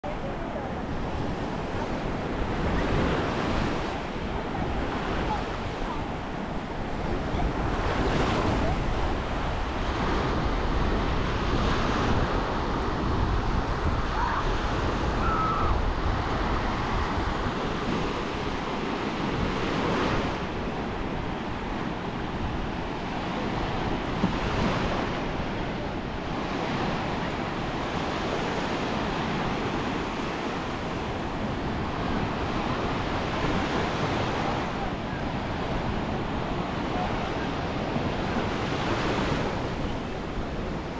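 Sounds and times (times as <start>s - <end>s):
surf washing up a sandy beach: 0.0s - 40.9s
wind buffeting microphone: 0.0s - 40.9s.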